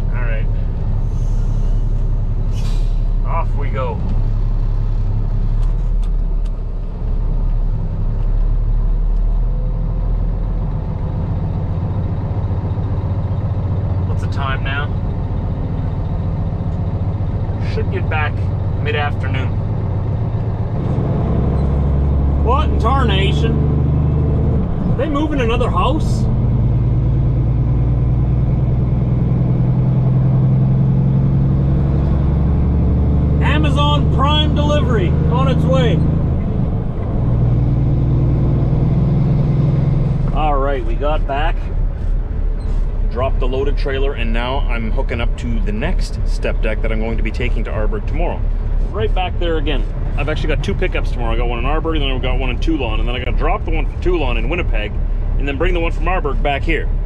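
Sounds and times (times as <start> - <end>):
road noise: 0.0 - 57.0
truck diesel engine hum: 0.0 - 57.0.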